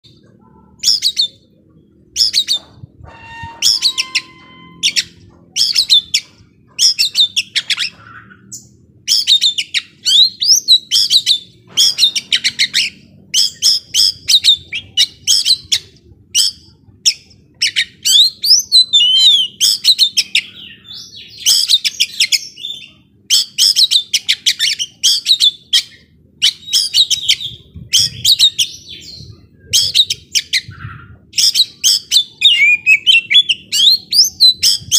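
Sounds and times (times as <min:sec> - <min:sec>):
bird singing chattering notes and whistles: 0:00.1 - 0:34.9.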